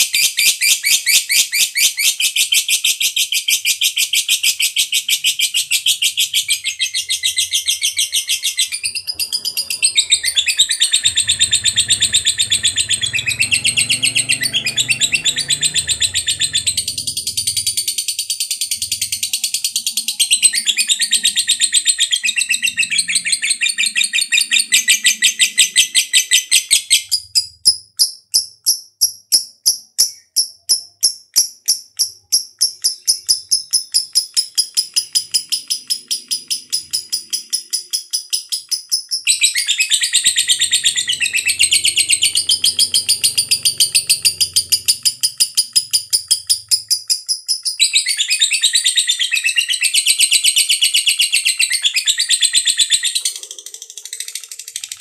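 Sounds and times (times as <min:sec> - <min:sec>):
lovebird chattering song: 0:00.0 - 0:55.0.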